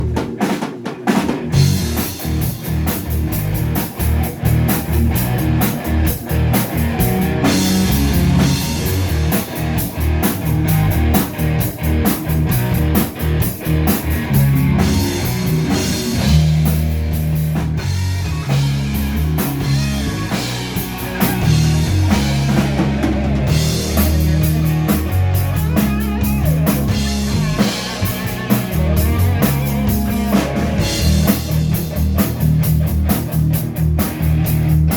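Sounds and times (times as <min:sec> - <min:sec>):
live rock band playing: 0:00.0 - 0:34.9
low bass notes: 0:01.5 - 0:34.9.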